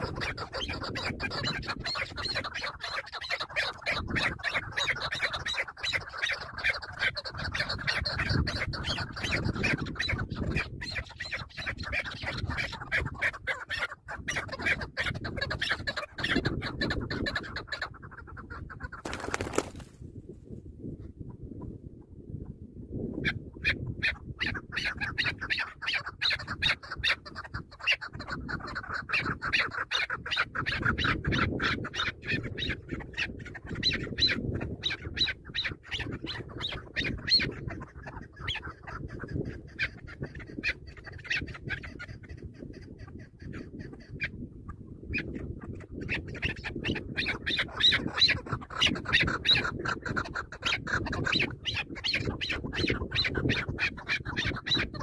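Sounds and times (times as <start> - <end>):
partridge clucking calls: 0.0 - 19.9, 22.4 - 55.0.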